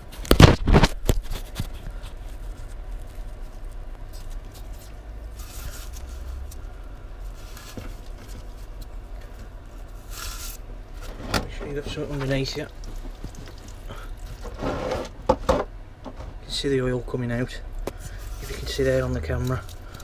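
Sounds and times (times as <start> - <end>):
low steady hum: 0.0 - 20.0
gloved hand rustling and scraping: 0.1 - 15.2, 17.9 - 20.0.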